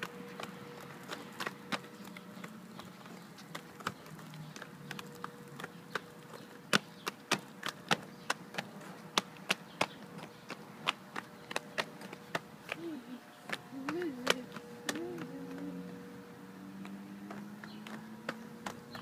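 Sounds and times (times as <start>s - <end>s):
roller skate wheels clacking on concrete: 0.0s - 12.8s, 13.5s - 15.8s, 16.8s - 19.0s.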